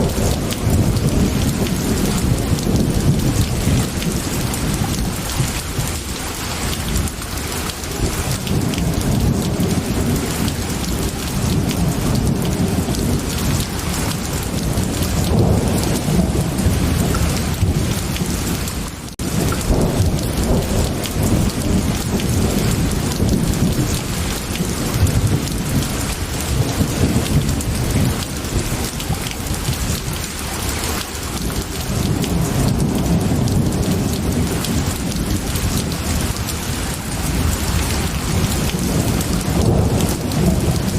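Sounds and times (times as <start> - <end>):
heavy rain: 0.0 - 40.9
rolling thunder: 0.0 - 40.9.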